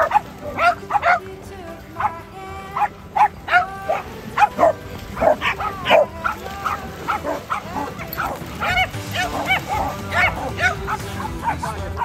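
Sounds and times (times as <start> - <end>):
dog barking and yelping: 0.0 - 1.3, 2.0 - 12.0.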